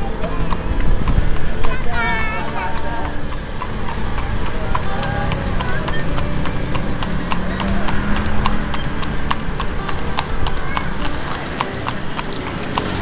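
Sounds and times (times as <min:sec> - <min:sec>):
horse hooves clip-clopping on pavement: 0:00.0 - 0:13.0.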